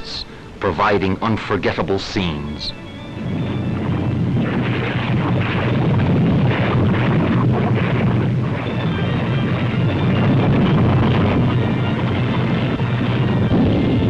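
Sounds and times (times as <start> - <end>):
volcano erupting low rumble: 0.0 - 14.0.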